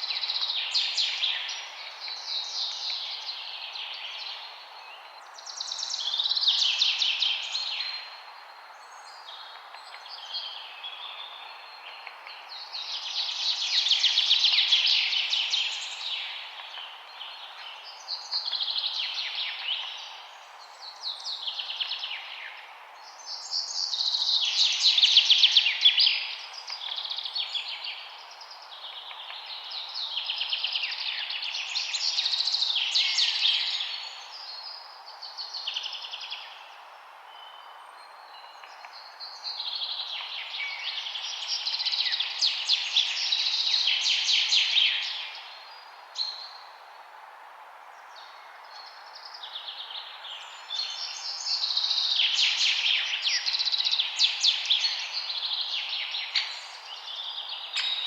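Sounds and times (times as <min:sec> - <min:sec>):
songbird chirping: 0:00.0 - 0:47.2, 0:47.9 - 0:58.0
background hiss: 0:00.0 - 0:58.0.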